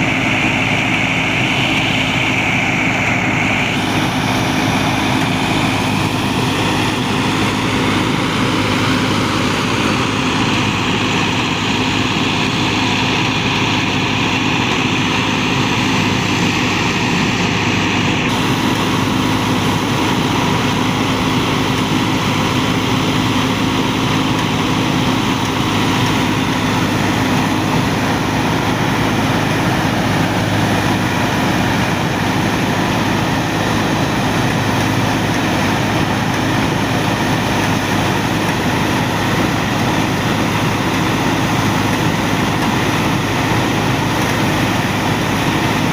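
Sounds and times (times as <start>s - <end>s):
harvesting machinery noise: 0.0s - 45.9s
tractor diesel engine running: 0.0s - 45.9s.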